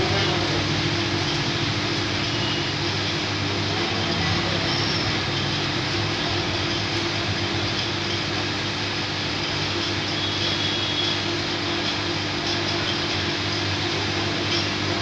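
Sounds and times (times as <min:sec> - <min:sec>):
machine electrical hum: 0:00.0 - 0:15.0.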